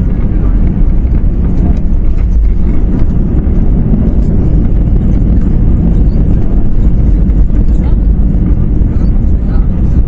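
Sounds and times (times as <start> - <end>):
airplane engines and wheels rumbling: 0.0 - 10.0.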